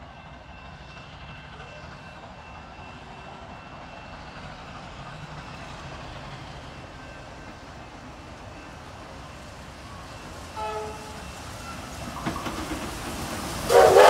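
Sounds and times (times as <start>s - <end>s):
distant steam train working hard: 0.0s - 14.0s.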